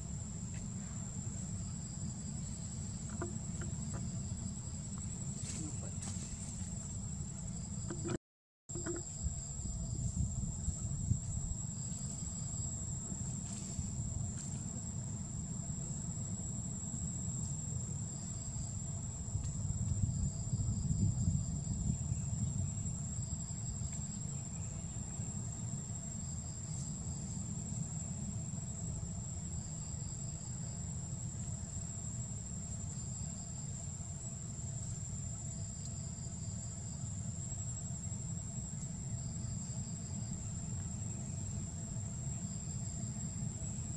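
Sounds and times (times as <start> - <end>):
insects droning high-pitched: 0.0 - 43.9.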